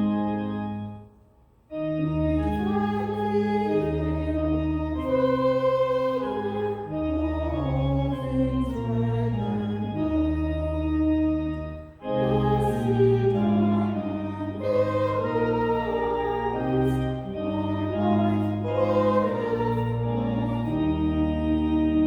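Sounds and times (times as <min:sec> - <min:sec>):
pipe organ: 0:00.0 - 0:22.0
voices singing a hymn: 0:02.3 - 0:11.0, 0:12.0 - 0:22.0.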